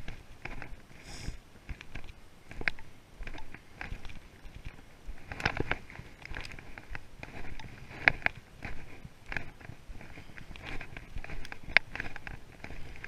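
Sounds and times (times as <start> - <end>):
footsteps crunching on sticks: 0.0 - 13.0.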